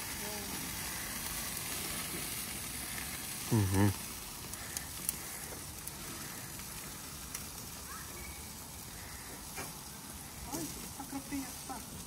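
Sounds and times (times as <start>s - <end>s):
steak sizzling over fire: 0.0s - 12.0s.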